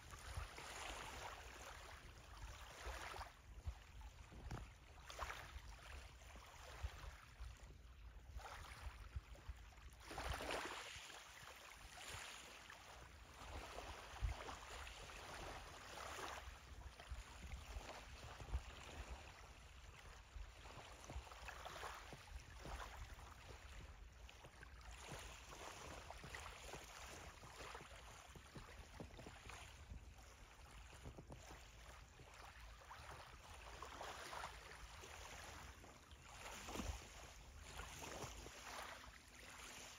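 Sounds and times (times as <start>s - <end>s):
water lapping: 0.0s - 39.9s
wind rumble on microphone: 0.0s - 39.9s.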